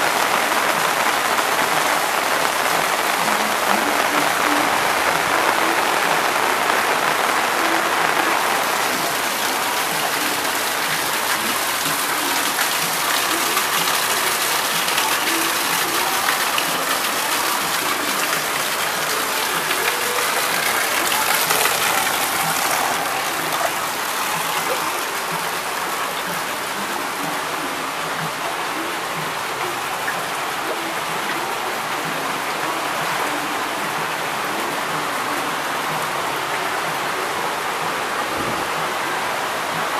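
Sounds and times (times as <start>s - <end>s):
heavy rain splashing on water: 0.0s - 39.9s.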